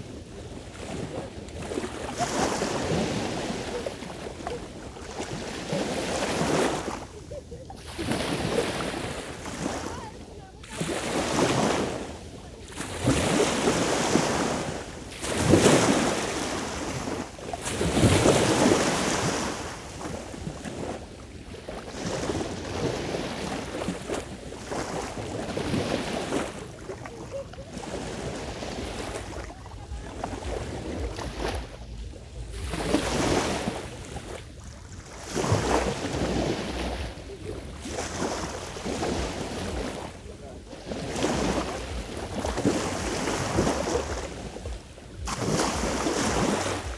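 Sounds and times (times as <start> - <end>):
sea waves washing onto shore: 0.0 - 46.9
wind rumbling on microphone: 0.0 - 46.9.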